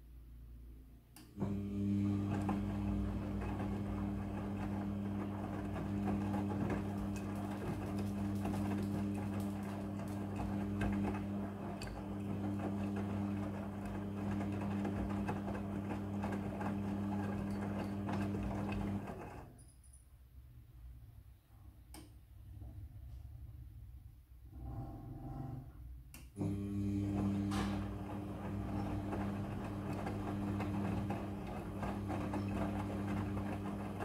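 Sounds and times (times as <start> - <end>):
washing machine motor hum: 0.6 - 19.6, 22.2 - 34.0.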